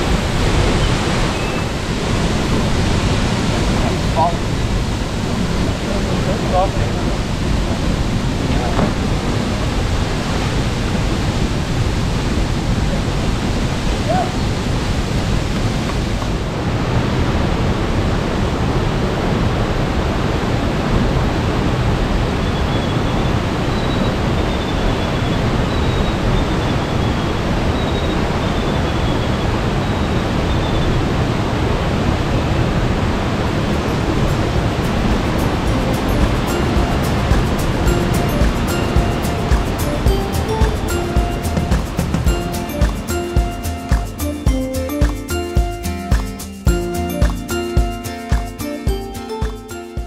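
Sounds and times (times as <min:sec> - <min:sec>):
waterfall rushing: 0:00.0 - 0:24.5, 0:29.5 - 0:50.0.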